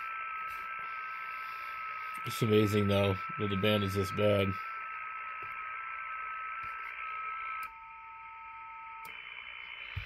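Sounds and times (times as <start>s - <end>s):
radio receiver hiss: 0.0s - 10.0s.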